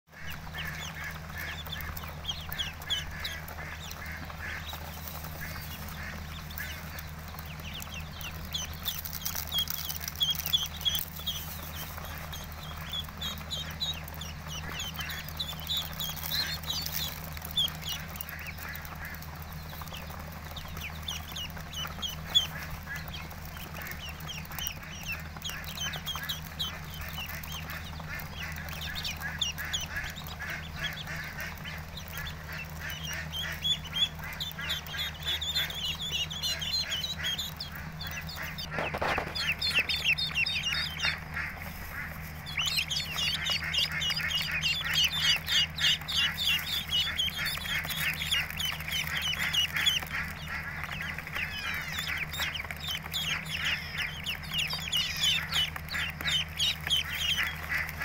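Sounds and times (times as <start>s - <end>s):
ducklings peeping: 0.1s - 58.0s
steady low hum: 0.1s - 58.0s.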